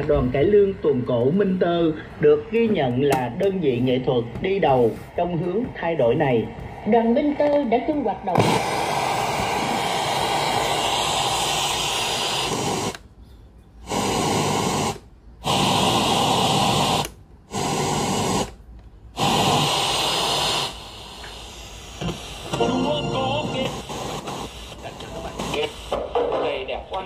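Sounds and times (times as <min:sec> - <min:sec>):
radio static hiss: 0:00.0 - 0:13.0, 0:13.8 - 0:18.6, 0:19.2 - 0:27.0.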